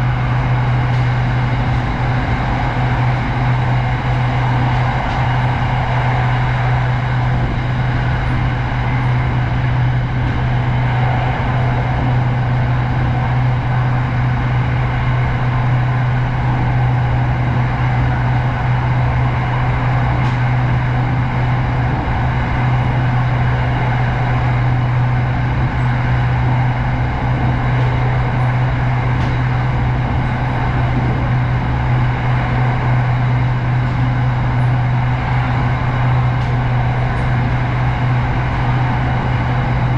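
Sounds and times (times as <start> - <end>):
vehicle running hum and hiss: 0.0 - 39.9.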